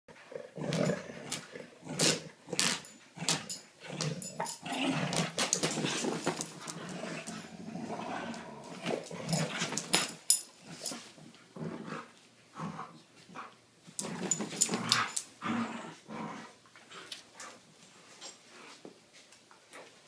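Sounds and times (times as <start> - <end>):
dogs growling in play: 0.1 - 17.5.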